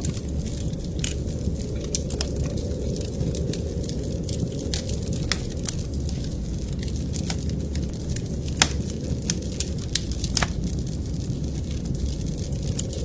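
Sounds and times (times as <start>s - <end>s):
low rumble: 0.0s - 13.0s
wood fire crackling: 0.0s - 13.0s.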